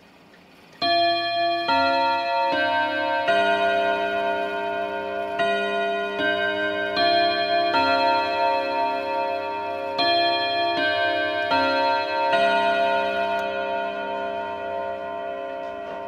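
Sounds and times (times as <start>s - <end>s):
clock chiming on gong rods: 0.8s - 16.0s.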